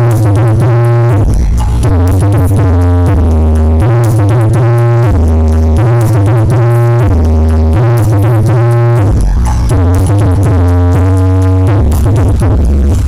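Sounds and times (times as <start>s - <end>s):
loud electronic dance music: 0.0s - 13.0s.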